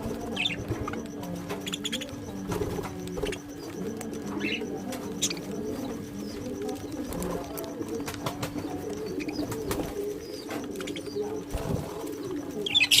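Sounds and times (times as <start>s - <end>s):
birds cooing: 0.0s - 13.0s
high bird chirps: 0.0s - 13.0s
steady low hum: 0.0s - 13.0s.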